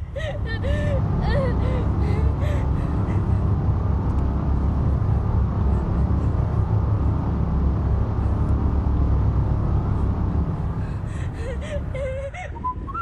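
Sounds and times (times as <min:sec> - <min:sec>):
loud steady low rumble: 0:00.0 - 0:13.0.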